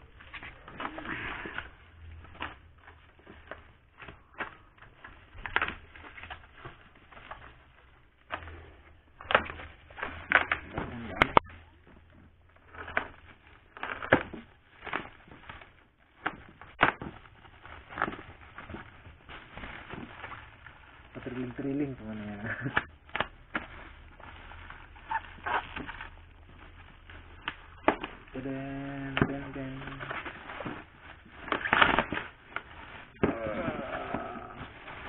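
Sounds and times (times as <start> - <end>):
bubble wrap crackling and snapping: 0.0 - 35.0
plastic pouch rustling: 0.0 - 35.0.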